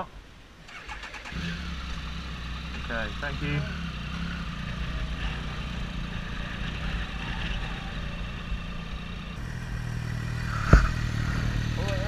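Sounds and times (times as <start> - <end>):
motorcycle engine at low revs: 1.2 - 12.0.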